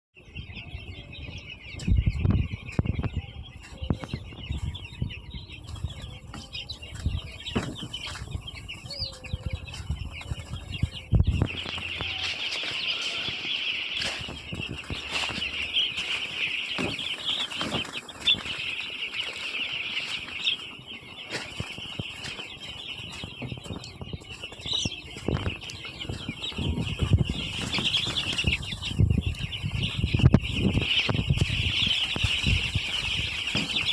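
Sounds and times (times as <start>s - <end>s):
chickens clucking: 0.2s - 33.9s
wings flapping and scuffling: 3.7s - 33.9s.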